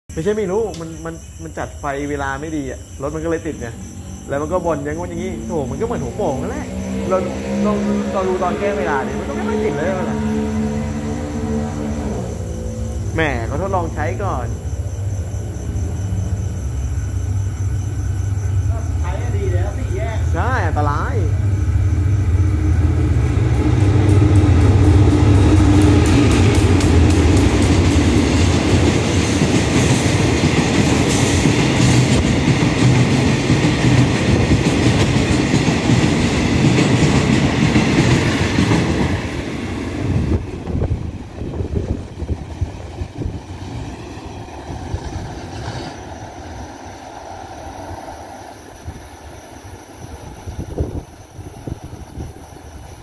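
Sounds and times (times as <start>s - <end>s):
train wagons rolling past: 0.1s - 53.0s
diesel locomotive engine drone: 0.2s - 53.0s.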